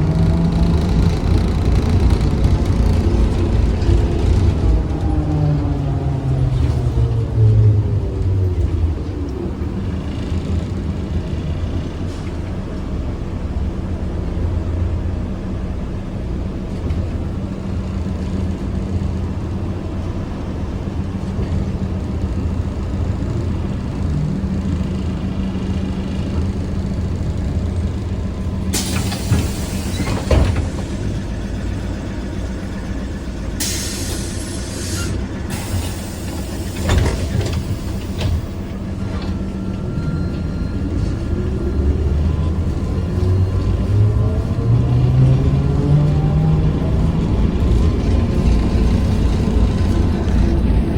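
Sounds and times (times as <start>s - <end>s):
trolleybus hum and road rumble: 0.0s - 50.9s.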